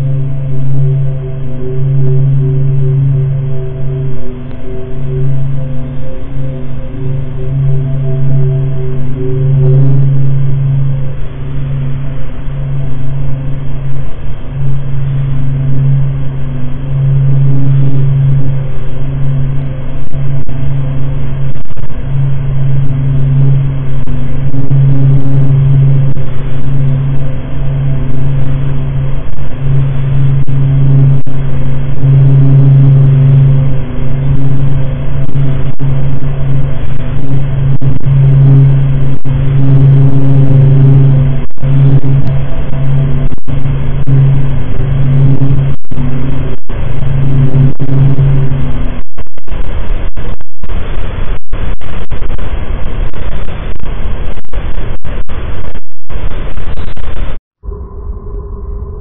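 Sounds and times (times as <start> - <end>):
deep throbbing drone: 0.0 - 59.0.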